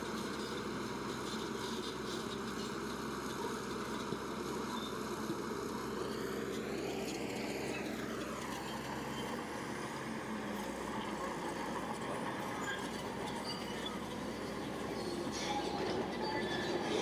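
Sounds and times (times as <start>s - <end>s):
diesel machine engine running: 0.0s - 17.0s.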